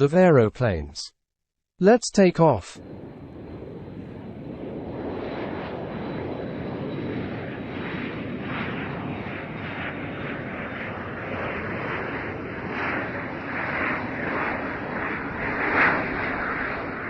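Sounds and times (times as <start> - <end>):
airplane engine running: 2.4 - 17.0.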